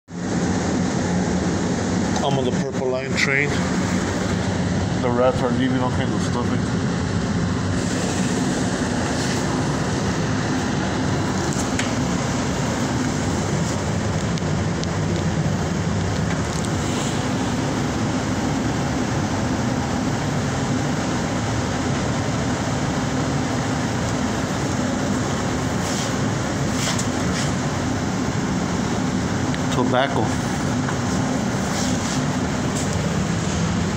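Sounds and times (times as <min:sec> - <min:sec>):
subway train running: 0:00.1 - 0:33.9.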